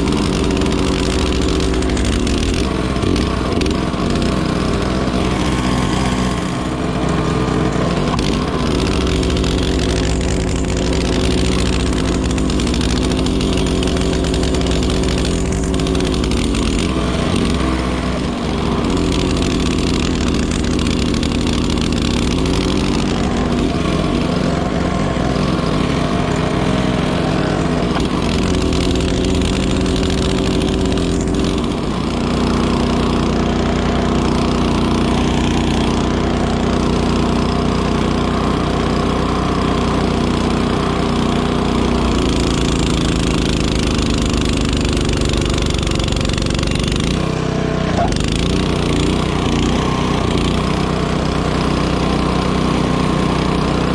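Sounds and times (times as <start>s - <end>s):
snowblower engine running: 0.0s - 53.9s.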